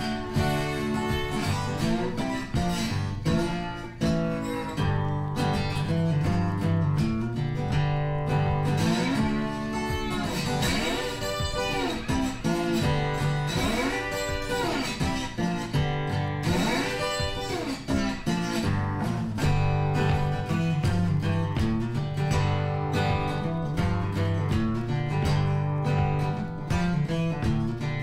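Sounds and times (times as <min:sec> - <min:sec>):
acoustic guitar instrumental: 0:00.0 - 0:28.0.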